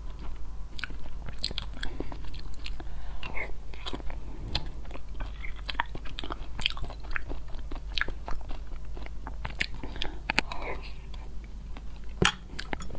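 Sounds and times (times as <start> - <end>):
mouth chewing and biting: 0.0 - 12.9.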